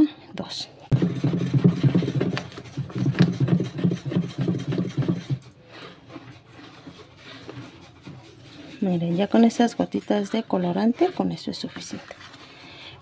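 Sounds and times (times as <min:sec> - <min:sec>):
spatula stirring liquid in plastic tub: 0:00.9 - 0:13.0.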